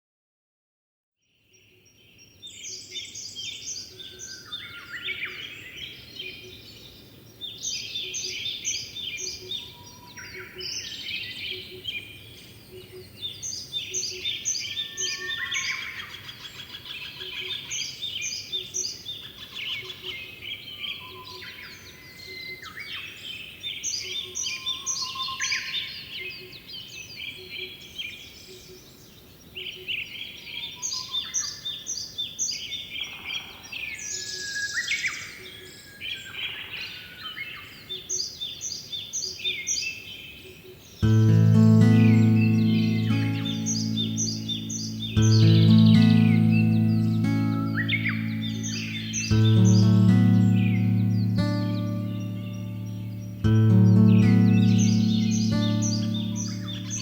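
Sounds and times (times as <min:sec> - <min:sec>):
songbirds singing: 0:01.2 - 0:57.0.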